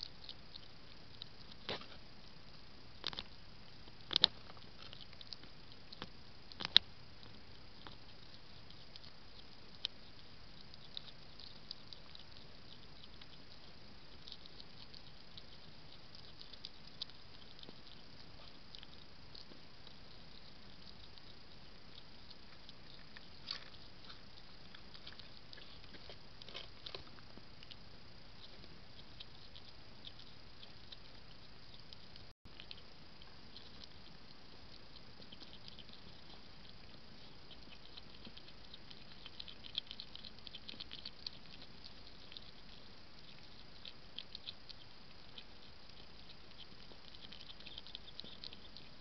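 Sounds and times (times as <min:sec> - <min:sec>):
faint steady hiss: 0:00.0 - 0:49.0
hedgehog chewing crunches: 0:00.0 - 0:49.0.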